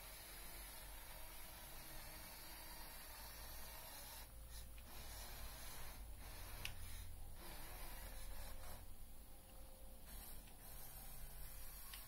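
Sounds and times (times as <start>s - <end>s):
electric motors whirring: 0.0s - 8.9s, 10.0s - 12.0s.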